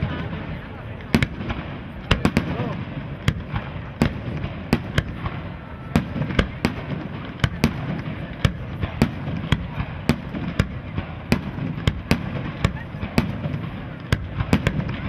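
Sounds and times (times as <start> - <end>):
crackling rumble of fireworks: 0.0 - 15.0
firework bangs: 0.0 - 15.0.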